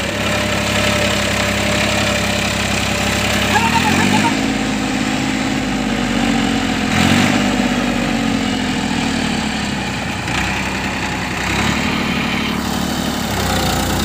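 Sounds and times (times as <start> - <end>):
tractor diesel engine straining: 0.0 - 14.0.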